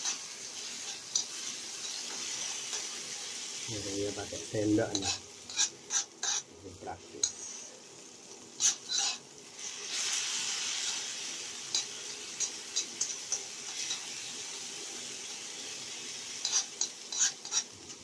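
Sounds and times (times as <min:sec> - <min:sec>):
paste sizzling in hot oil: 0:00.0 - 0:18.0.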